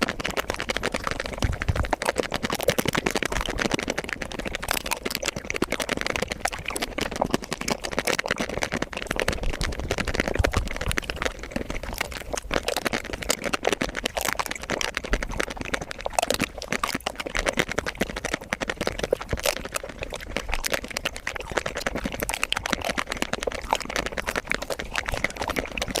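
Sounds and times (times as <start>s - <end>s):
sped-up eating mouth sounds: 0.0s - 26.0s.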